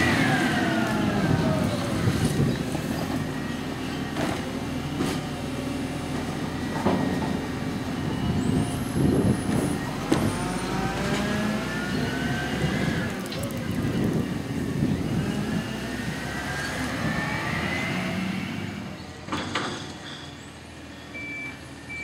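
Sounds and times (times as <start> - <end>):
garbage truck diesel engine: 0.0 - 22.0.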